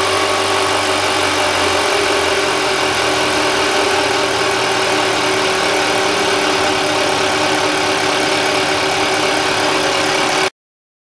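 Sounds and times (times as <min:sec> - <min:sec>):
injection pump test bench running: 0:00.0 - 0:10.5.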